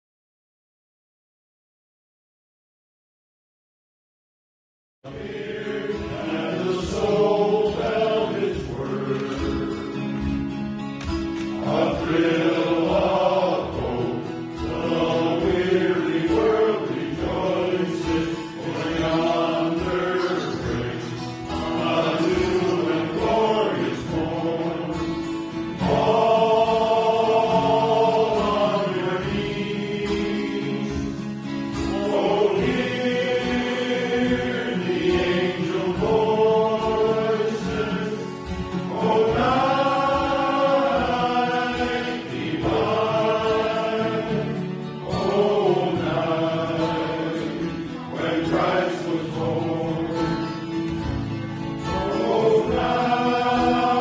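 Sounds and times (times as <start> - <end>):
choir singing a hymn: 5.1 - 54.0
strummed guitar: 5.1 - 54.0.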